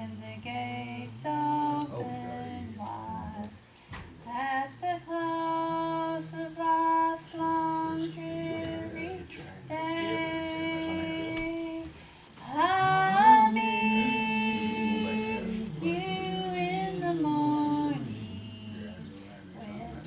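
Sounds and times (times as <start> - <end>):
woman singing a hymn: 0.0 - 3.6, 4.2 - 19.0, 19.6 - 20.0.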